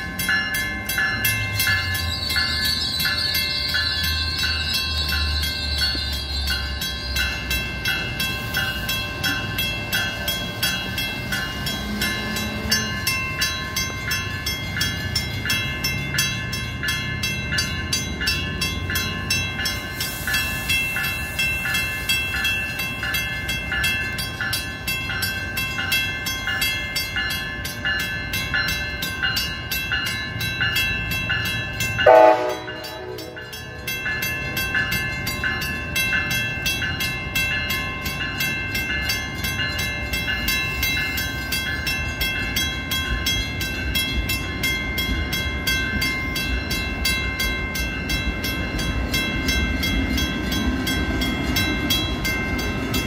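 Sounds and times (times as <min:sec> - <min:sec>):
crossing warning bell ringing: 0:00.0 - 0:53.0
train rumbling: 0:00.0 - 0:53.0.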